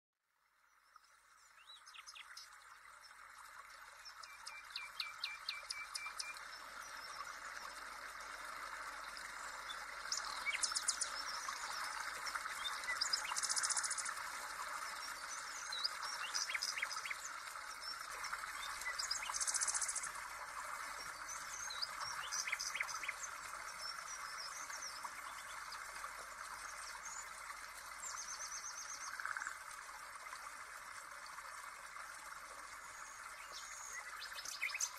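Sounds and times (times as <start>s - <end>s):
songbirds chirping and trilling: 0.7s - 29.7s, 32.7s - 34.9s.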